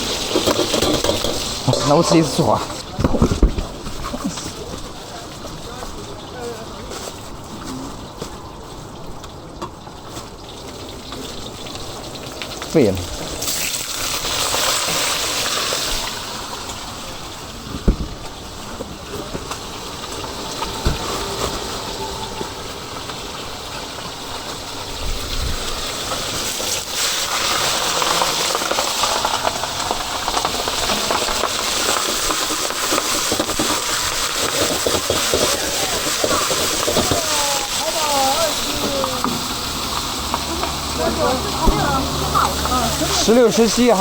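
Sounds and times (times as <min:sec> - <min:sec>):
chicken sizzling in a wok: 0:00.0 - 0:44.0.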